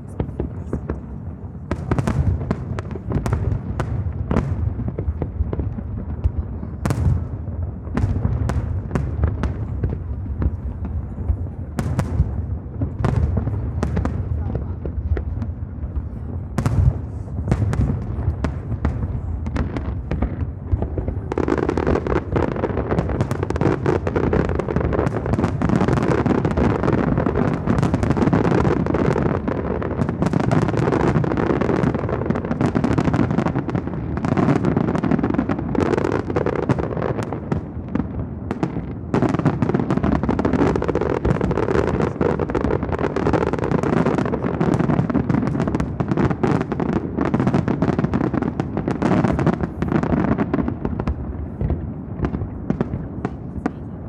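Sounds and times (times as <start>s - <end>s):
fireworks booms and crackles: 0.0s - 54.0s.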